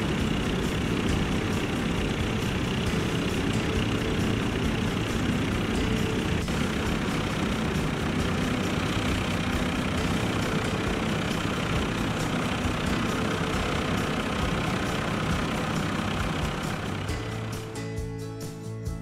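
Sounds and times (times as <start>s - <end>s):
tractor engine under load: 0.0s - 18.1s.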